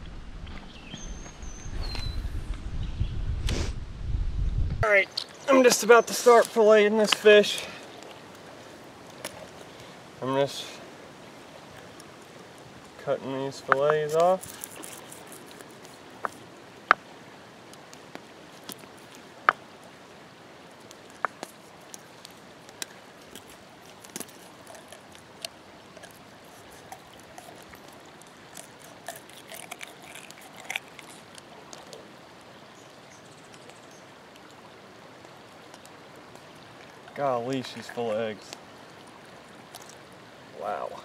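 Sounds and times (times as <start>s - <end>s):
creek water flowing: 4.8s - 41.0s.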